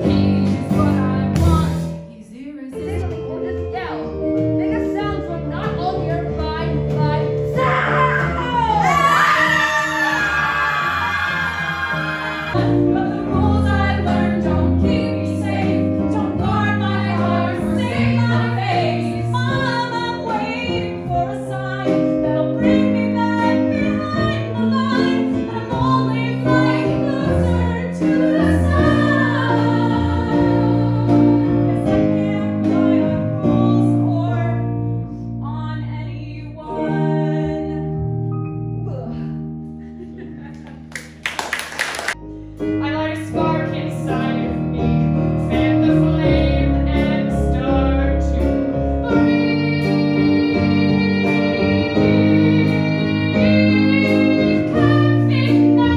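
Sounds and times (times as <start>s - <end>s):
woman singing into microphone: 4.8s - 34.7s, 35.4s - 38.1s, 42.8s - 55.9s.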